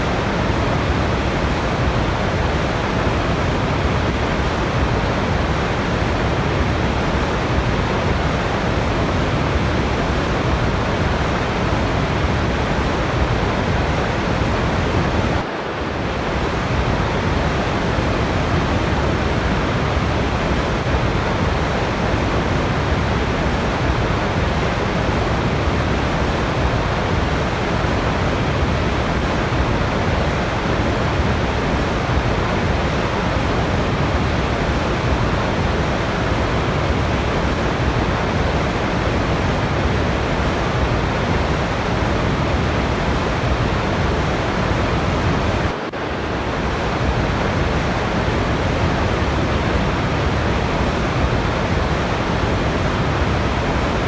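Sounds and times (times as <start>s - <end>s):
waterfall roar: 0.0s - 54.0s.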